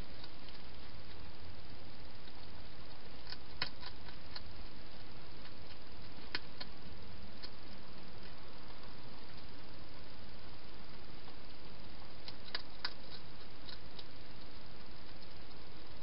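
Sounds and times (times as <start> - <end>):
hedgehog eating clicks and crunches: 0.0 - 10.2, 10.8 - 16.0
steady hiss: 0.0 - 16.0.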